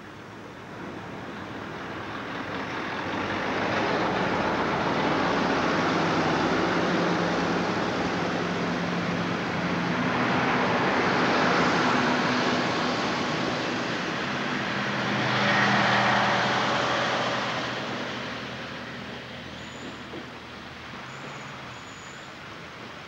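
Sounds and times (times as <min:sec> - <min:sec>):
train wheels rumbling on rails: 0:00.1 - 0:23.0.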